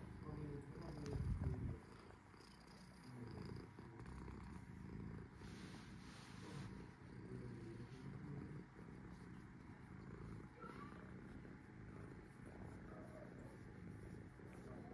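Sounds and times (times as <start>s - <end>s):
cat purring: 0.0s - 14.9s.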